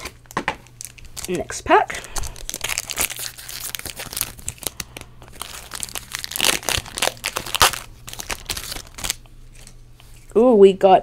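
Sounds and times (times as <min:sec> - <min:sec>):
foil wrapper crinkling: 0:00.0 - 0:10.3.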